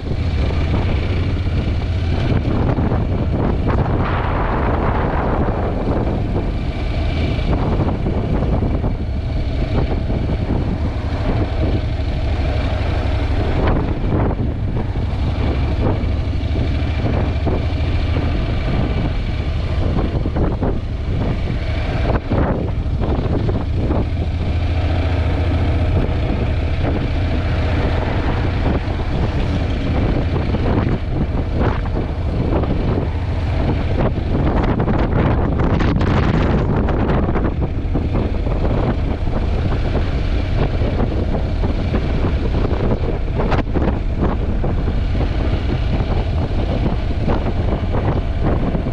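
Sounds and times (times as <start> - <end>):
motorcycle engine rumble: 0.0 - 48.9
wind buffeting microphone: 0.0 - 48.9.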